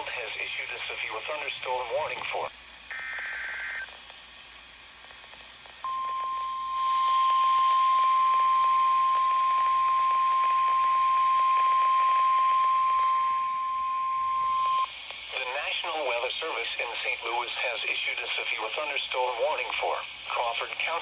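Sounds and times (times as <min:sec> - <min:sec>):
radio hiss: 0:00.0 - 0:21.0.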